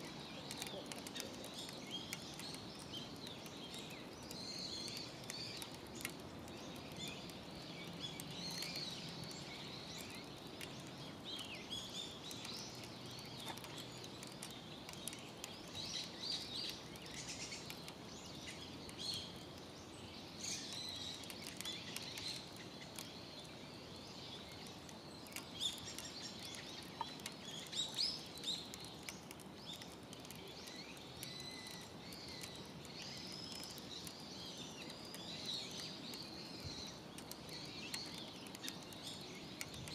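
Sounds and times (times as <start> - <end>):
faint clicks and crackles: 0.0 - 39.9
low steady background noise: 0.0 - 39.9
small birds chirping: 0.0 - 39.9.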